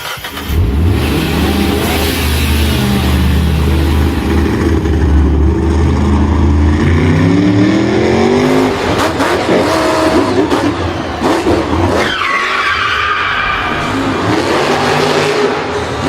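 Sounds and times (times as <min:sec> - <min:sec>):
vehicle engine revving: 0:00.0 - 0:12.4, 0:13.6 - 0:16.0.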